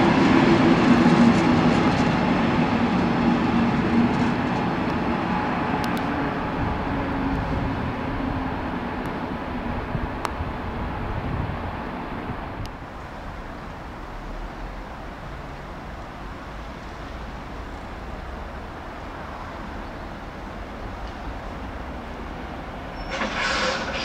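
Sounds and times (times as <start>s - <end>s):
train hum: 0.0s - 24.0s.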